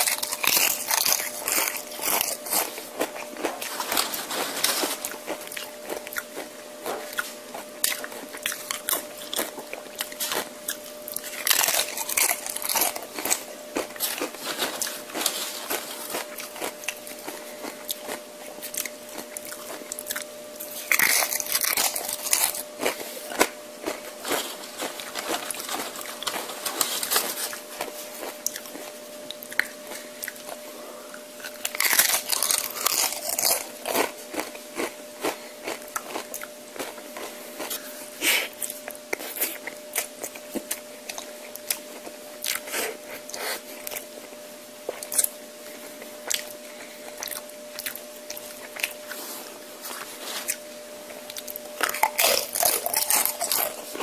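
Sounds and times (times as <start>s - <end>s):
person crunching chips: 0.0s - 30.6s, 31.4s - 44.2s, 45.9s - 54.0s
faint steady hum: 0.0s - 54.0s.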